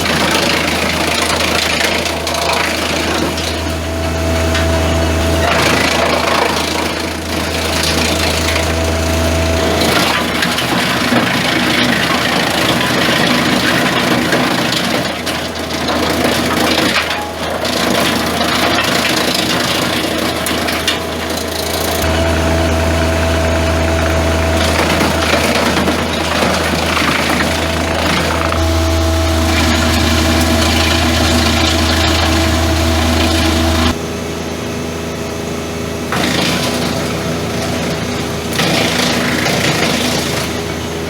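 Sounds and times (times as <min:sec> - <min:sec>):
wood being shredded: 0:00.0 - 0:34.0, 0:35.9 - 0:41.0
wood chipper engine hum: 0:00.0 - 0:41.0.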